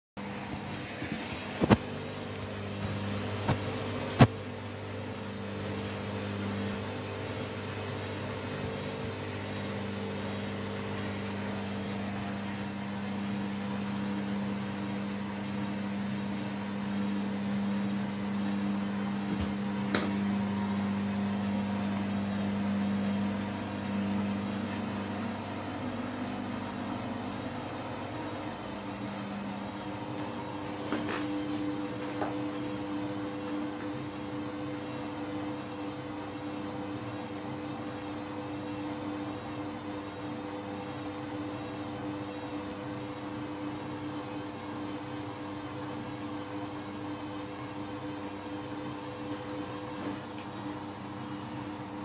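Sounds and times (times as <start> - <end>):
washing machine motor hum: 0.2 - 52.0.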